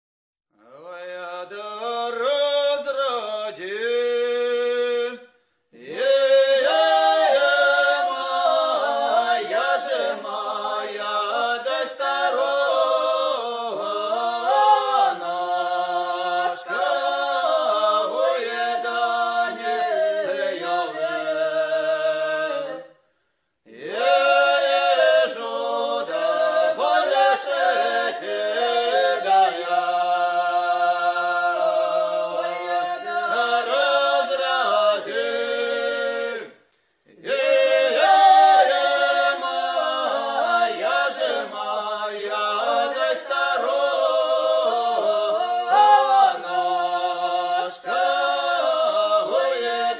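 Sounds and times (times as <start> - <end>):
unaccompanied choir singing: 5.8 - 23.0, 23.7 - 49.9.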